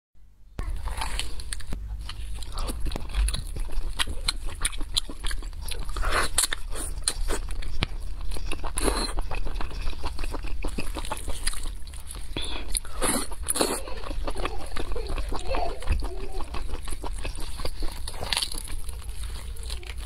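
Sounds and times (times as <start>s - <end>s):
wet chewing and mouth smacks: 0.6s - 20.0s.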